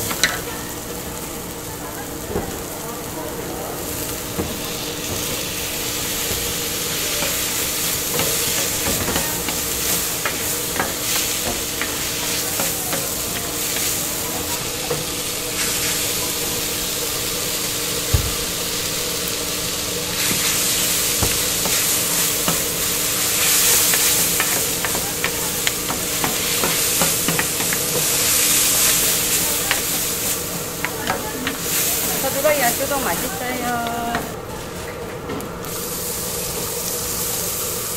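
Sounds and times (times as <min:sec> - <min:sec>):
noodles sizzling on griddle: 0:00.0 - 0:37.9.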